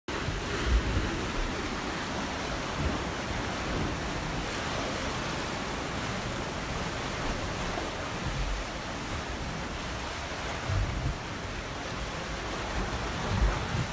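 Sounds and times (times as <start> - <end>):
waves washing on shore: 0.1 - 13.9.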